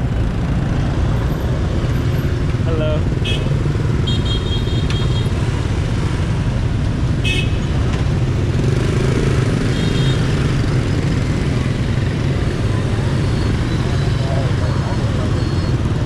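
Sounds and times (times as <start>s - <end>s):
motorbike and scooter engines: 0.0s - 16.0s.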